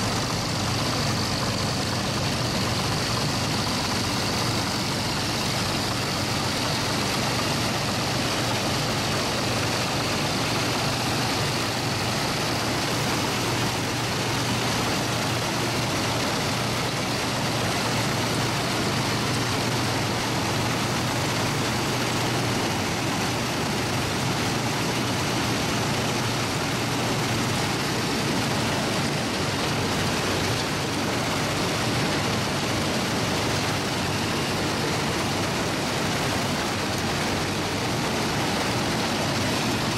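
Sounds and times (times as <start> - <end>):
combine engine hum: 0.0 - 39.9
threshing machinery noise: 0.0 - 39.9.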